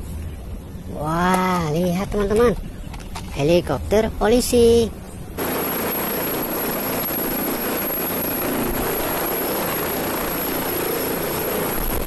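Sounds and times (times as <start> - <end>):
helicopter rotor and engine noise: 0.0 - 12.0
turbine high whine: 0.0 - 12.0.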